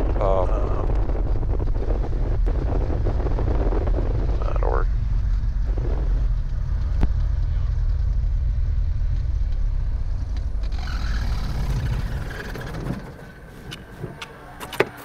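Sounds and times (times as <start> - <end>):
propeller winding down: 0.0 - 14.8.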